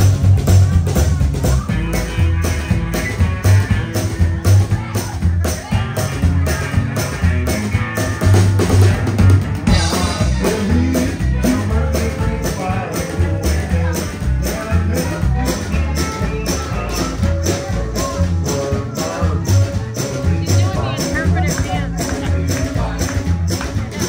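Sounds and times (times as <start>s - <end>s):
double bass plucked: 0.0s - 24.0s
drum kit beat: 0.0s - 24.0s.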